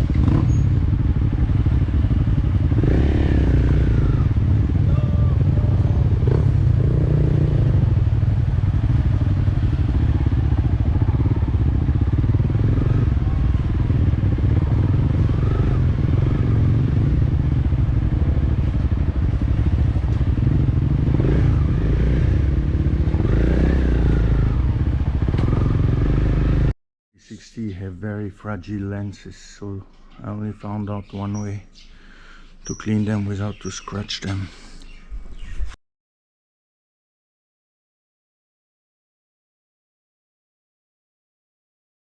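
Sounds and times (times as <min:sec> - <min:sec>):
motorcycle engine rumbling: 0:00.0 - 0:35.8.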